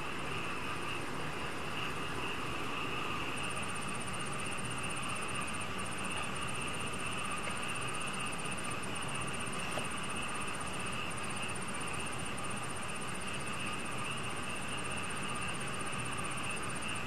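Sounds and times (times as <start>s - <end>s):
insects pulsing trill: 0.0s - 17.0s
shrill insect drone: 0.0s - 17.0s.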